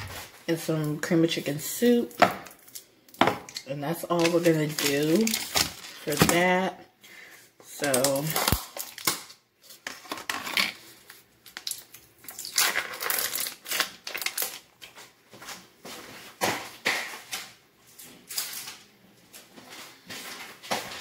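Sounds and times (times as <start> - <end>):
food packaging rustling: 0.0 - 6.6, 7.6 - 21.0.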